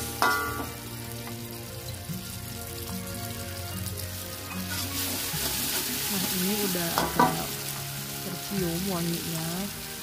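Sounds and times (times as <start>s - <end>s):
food sizzling in hot oil: 0.0s - 10.0s
soft background music: 0.0s - 10.0s.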